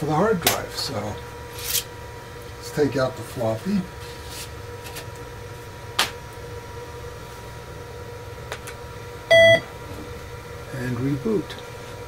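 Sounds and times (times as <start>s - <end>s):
computer fan and drives humming: 0.0s - 12.0s.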